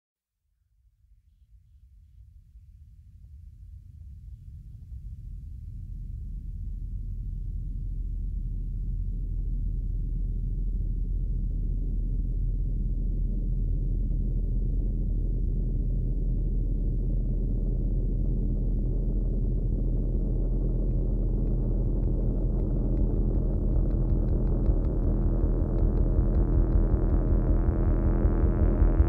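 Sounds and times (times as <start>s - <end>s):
constant low hum: 1.7s - 29.0s
deep volcano rumble: 3.2s - 29.0s.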